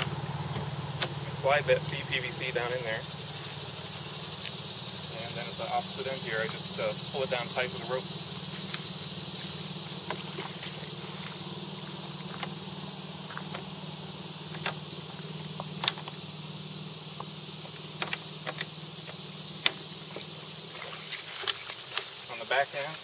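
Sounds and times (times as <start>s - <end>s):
high hiss: 0.0s - 23.0s
low engine-like hum: 0.0s - 23.0s.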